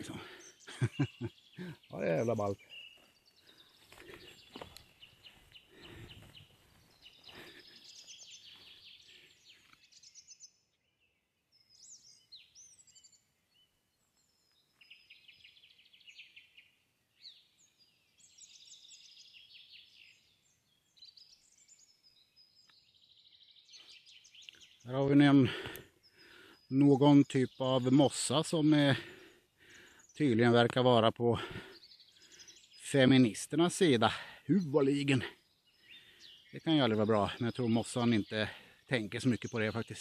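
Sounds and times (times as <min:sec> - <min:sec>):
small birds trilling and chirping: 0:00.0 - 0:40.0.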